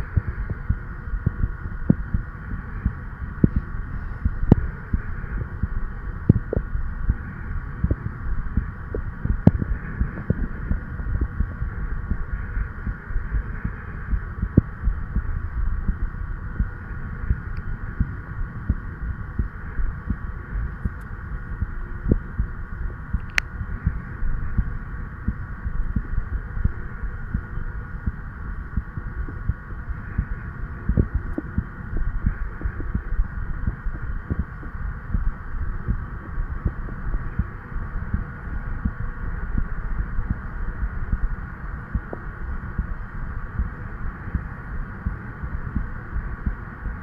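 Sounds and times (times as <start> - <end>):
heartbeat thuds: 0.0 - 47.0
steady hum: 0.0 - 47.0.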